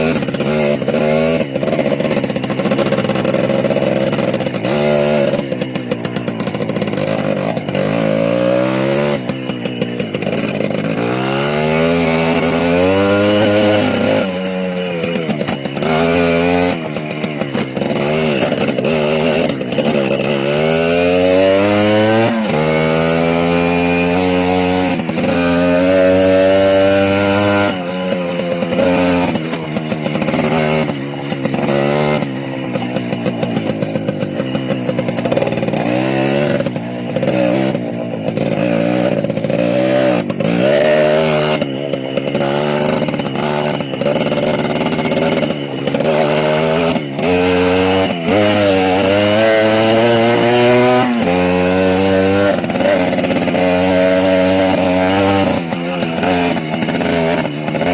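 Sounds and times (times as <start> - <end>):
small motorbike engine revving: 0.0 - 57.9.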